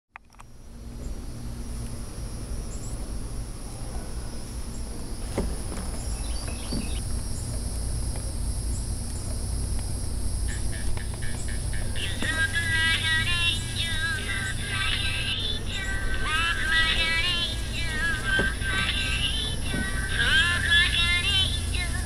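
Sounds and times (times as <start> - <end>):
cricket chirps: 0.2 - 22.0
insects droning: 0.2 - 22.0.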